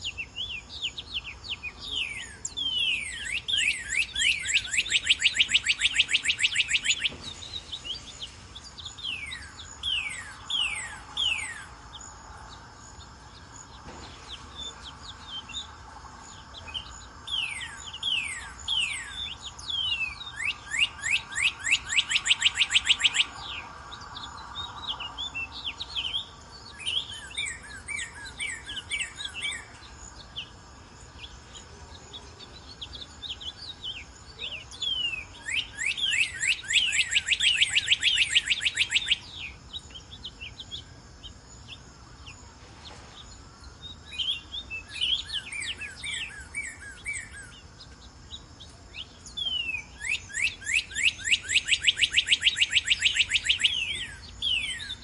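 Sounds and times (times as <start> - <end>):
bird whistling song: 0.0 - 55.0
faint high bird chirping: 0.0 - 55.0.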